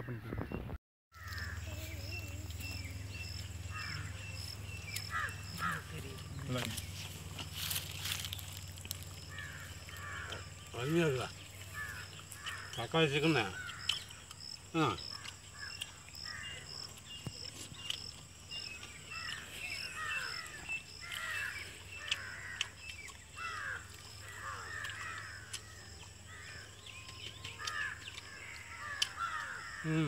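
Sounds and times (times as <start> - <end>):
birds chattering: 0.0 - 30.0.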